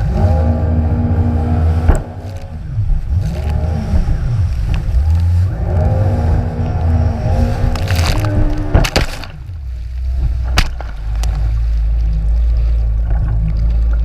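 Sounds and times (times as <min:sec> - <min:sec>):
jet ski engine revving: 0:00.0 - 0:14.0.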